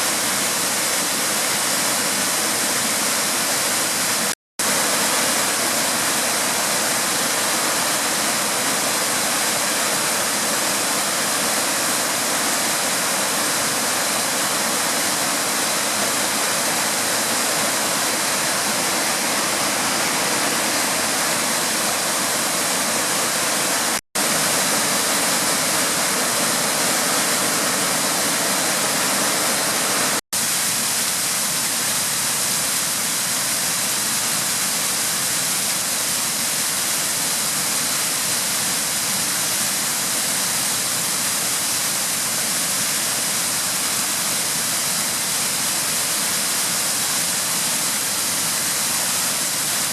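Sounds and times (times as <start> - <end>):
waterfall rushing over rocks: 0.0 - 49.9.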